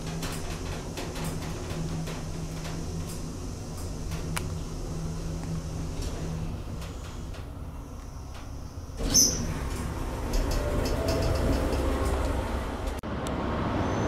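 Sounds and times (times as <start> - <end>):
low rumble of station platform: 0.0 - 14.0.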